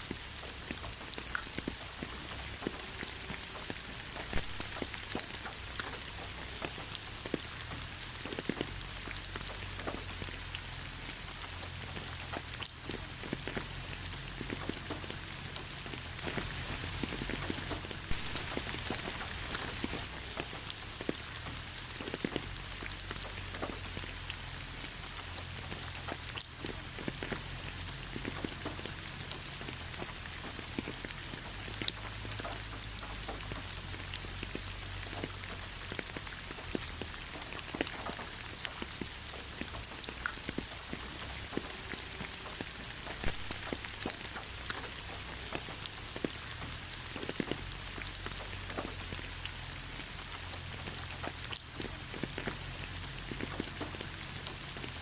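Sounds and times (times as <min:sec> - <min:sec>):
raindrops pattering on surfaces: 0:00.0 - 0:55.0
steady rain hiss: 0:00.0 - 0:55.0.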